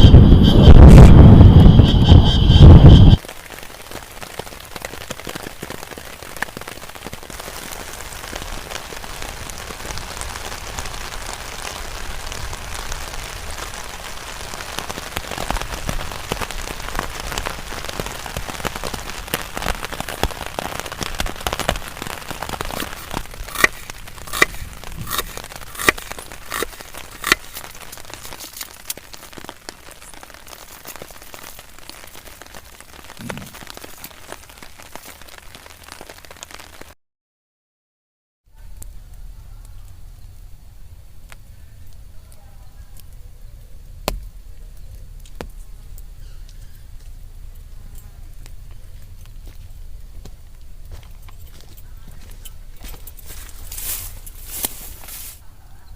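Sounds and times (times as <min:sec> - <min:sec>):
rain falling: 0:02.8 - 0:37.0, 0:38.5 - 0:55.9.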